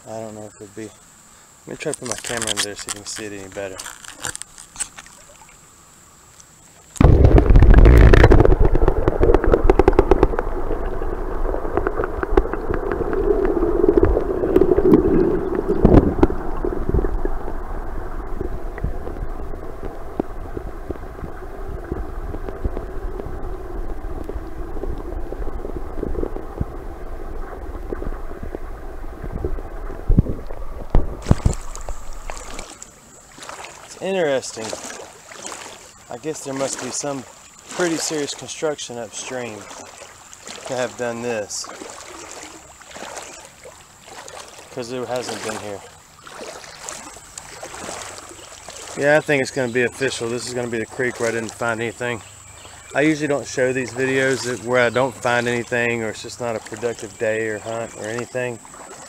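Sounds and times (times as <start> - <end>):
muffled underwater churning: 0.0 - 59.0.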